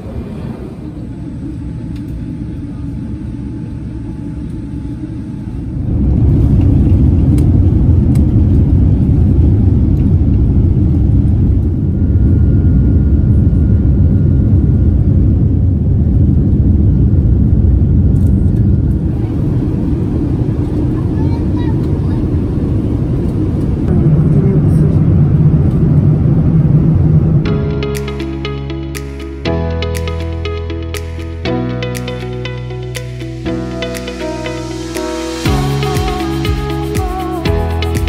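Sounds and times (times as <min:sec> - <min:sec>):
jet engine and airflow noise: 0:00.0 - 0:38.0.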